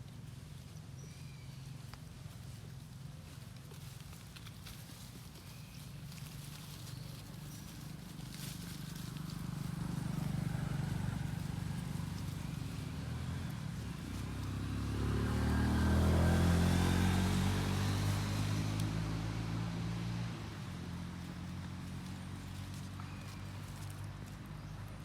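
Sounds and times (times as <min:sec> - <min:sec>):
vehicle engine running: 0:00.1 - 0:25.0.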